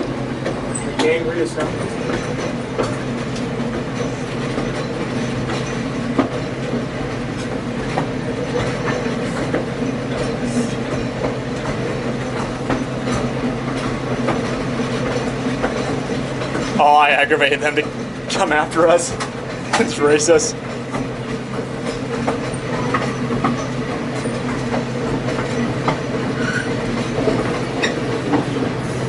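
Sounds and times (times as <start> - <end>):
train rumble inside coach: 0.0 - 29.0
wheels clicking over rail joints: 0.0 - 29.0.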